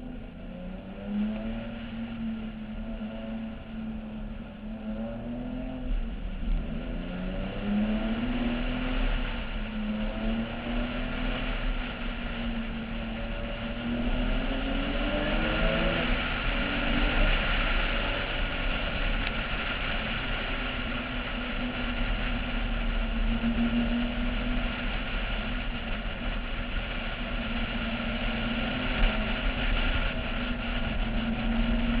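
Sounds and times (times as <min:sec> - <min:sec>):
car engine at speed: 0:00.0 - 0:32.0
wind rush: 0:00.0 - 0:32.0.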